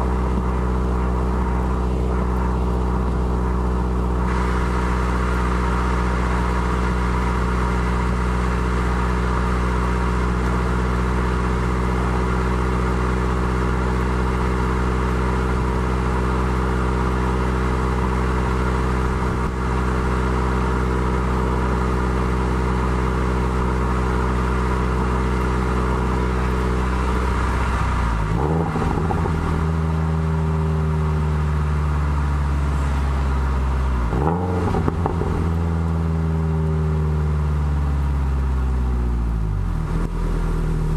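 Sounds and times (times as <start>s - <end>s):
car engine exhaust: 0.0s - 40.9s.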